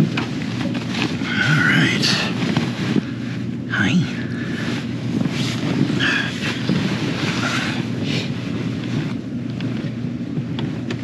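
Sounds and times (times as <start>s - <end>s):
rustling and handling noises: 0.0s - 11.0s.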